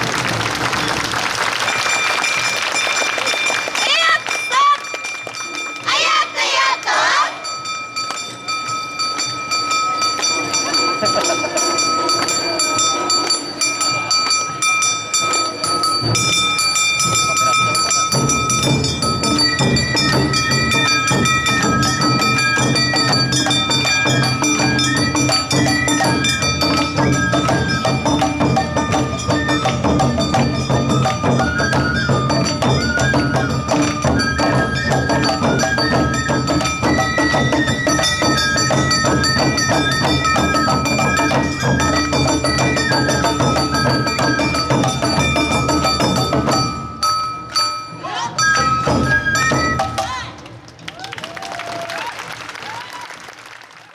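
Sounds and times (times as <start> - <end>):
festival band melody: 1.8 - 50.4
drums: 7.5 - 51.9.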